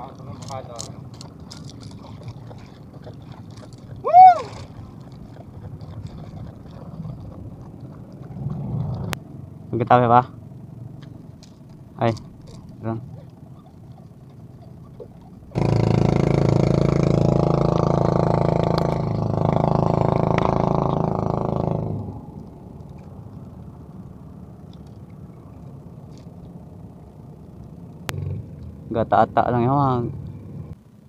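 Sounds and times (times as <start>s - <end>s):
low steady background noise: 0.0s - 31.0s
small boat engine running: 0.0s - 31.0s.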